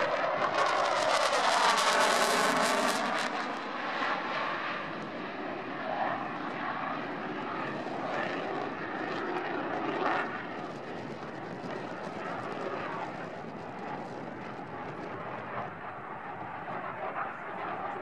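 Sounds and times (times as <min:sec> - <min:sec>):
jet roar in afterburner: 0:00.0 - 0:18.0.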